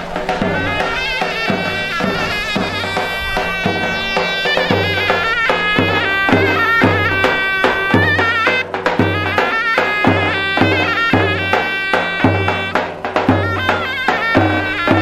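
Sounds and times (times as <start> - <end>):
low drum beat: 0.0 - 15.0
reedy wind instrument melody: 0.0 - 15.0
steady held tones: 0.0 - 15.0.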